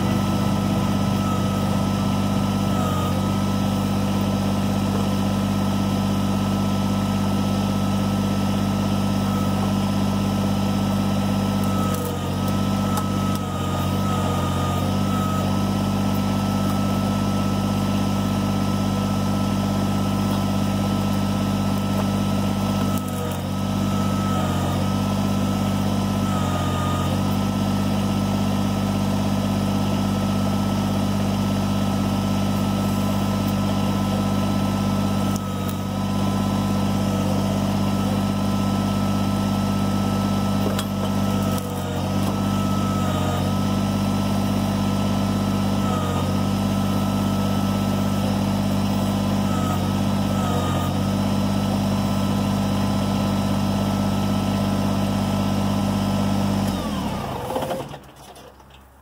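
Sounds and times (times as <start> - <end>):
engine shutting off: 0.0 - 59.0
tractor diesel engine running: 0.0 - 59.0.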